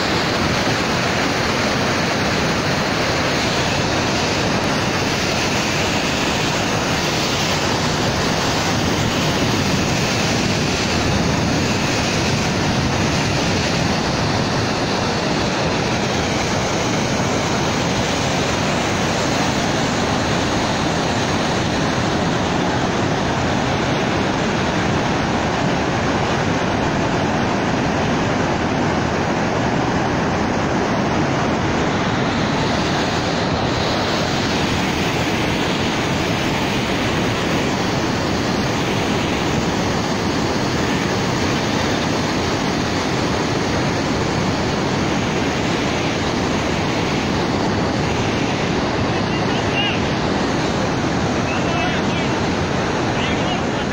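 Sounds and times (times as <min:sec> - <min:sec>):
water rushing over spillway: 0:00.0 - 0:53.9.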